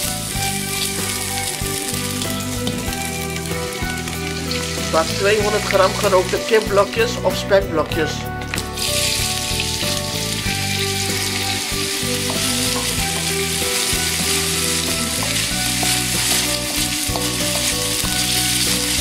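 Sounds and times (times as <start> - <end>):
chicken sizzling in a wok: 0.0 - 6.9, 8.4 - 19.0.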